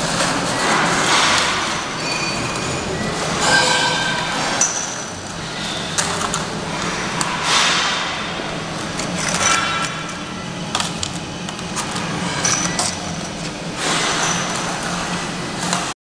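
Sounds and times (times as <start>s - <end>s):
labeling machine humming: 0.0s - 16.0s.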